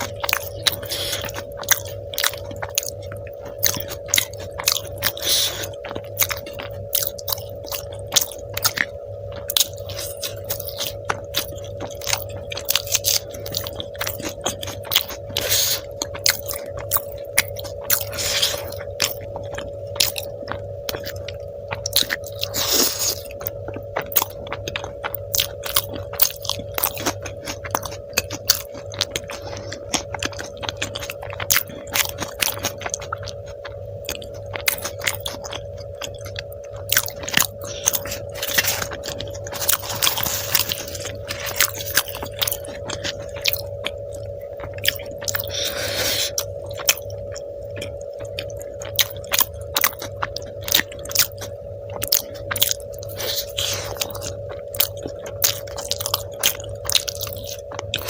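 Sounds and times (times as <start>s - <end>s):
person chewing and biting: 0.0s - 58.0s
steady hum: 0.0s - 58.0s.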